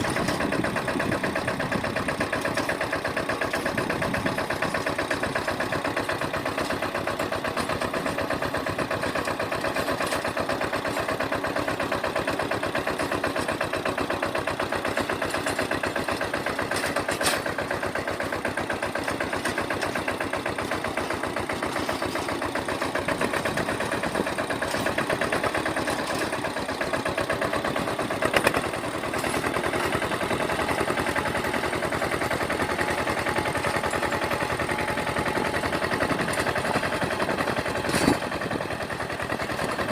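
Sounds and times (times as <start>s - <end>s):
small tractor engine puttering: 0.0s - 39.9s.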